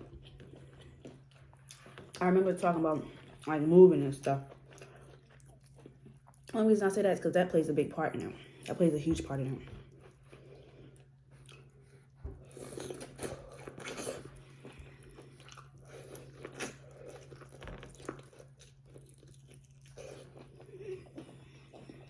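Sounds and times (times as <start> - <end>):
close chewing and mouth noises: 0.0 - 6.7, 9.4 - 22.0.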